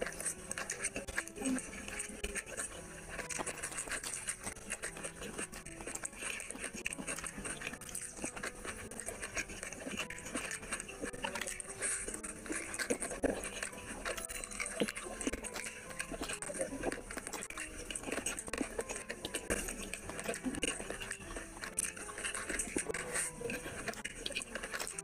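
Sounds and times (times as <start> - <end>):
hand squishing rice: 0.0 - 25.0
wet chewing and lip-smacking: 0.0 - 25.0.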